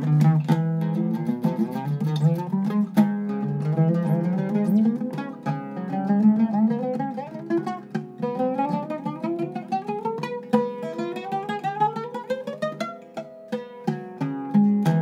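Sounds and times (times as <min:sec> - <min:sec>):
oud plucked runs: 0:00.0 - 0:15.0.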